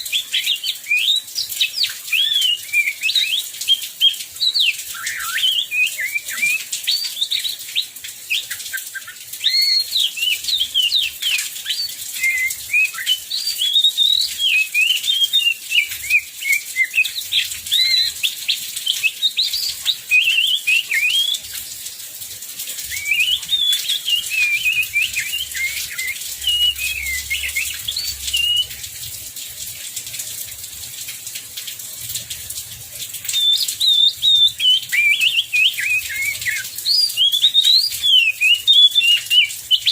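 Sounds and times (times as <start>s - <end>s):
songbird singing varied song: 0.0s - 21.6s, 22.8s - 28.8s, 33.3s - 39.9s
heavy rain hiss: 0.0s - 39.9s.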